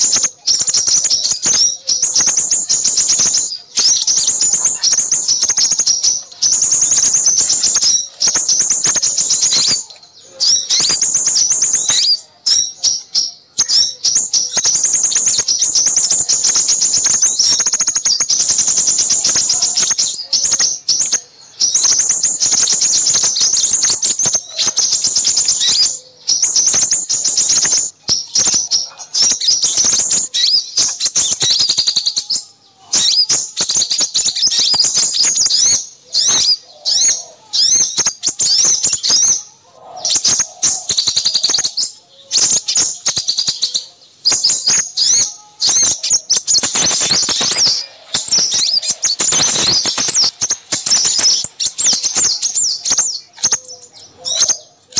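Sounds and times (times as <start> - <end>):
small songbirds twittering: 0.0 - 54.9.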